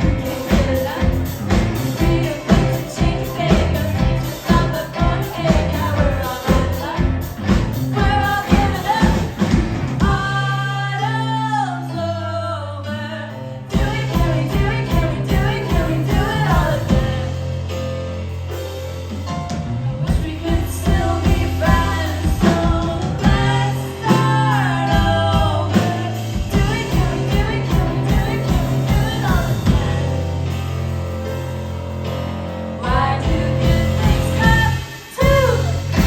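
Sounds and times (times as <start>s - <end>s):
drums: 0.0s - 12.0s, 13.3s - 36.0s
live band playing a song: 0.0s - 12.2s, 13.2s - 36.0s
lead vocal singing: 0.0s - 17.7s, 20.0s - 30.7s, 32.8s - 36.0s
bass notes: 0.0s - 36.0s.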